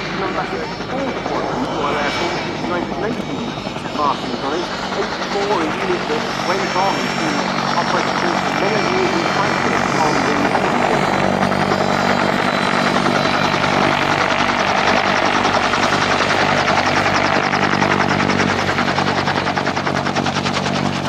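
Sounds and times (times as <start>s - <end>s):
helicopter engine: 0.0s - 21.0s
helicopter rotor blades chopping: 0.0s - 21.0s.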